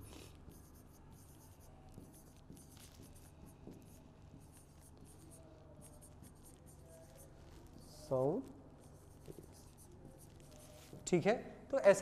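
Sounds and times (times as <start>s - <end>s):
marker scratching on board: 0.0s - 11.1s.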